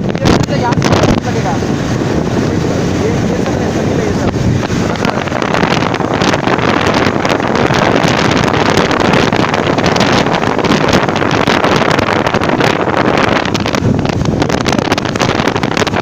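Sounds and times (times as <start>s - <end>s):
road noise: 0.0s - 16.0s
wind buffeting microphone: 0.0s - 16.0s
motorcycle engine: 1.2s - 16.0s.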